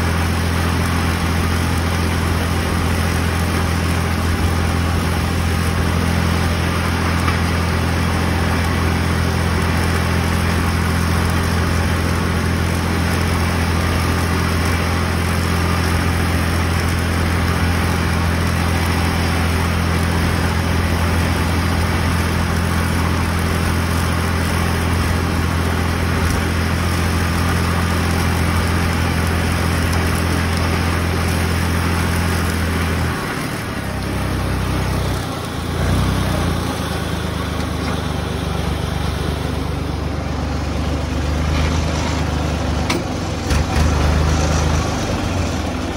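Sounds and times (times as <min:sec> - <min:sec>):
mower clattering: 0:00.0 - 0:45.9
tractor engine running: 0:00.0 - 0:45.9.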